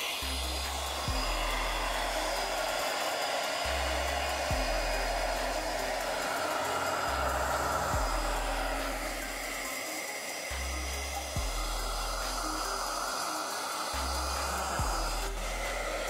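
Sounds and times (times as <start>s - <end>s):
hair dryer blowing air: 0.0s - 16.0s.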